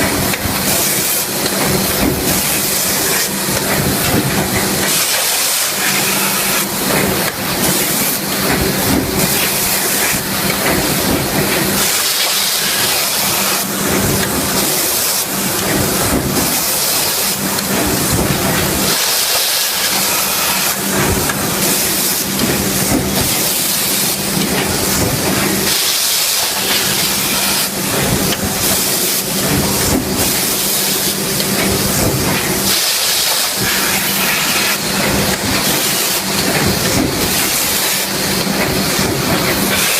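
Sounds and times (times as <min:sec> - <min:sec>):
machinery hiss: 0:00.0 - 0:39.9
rapid machinery clattering: 0:00.0 - 0:39.9.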